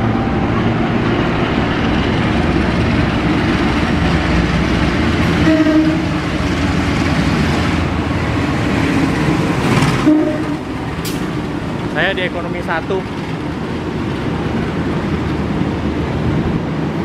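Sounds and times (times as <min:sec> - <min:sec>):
train rumbling and rattling: 0:00.0 - 0:17.0.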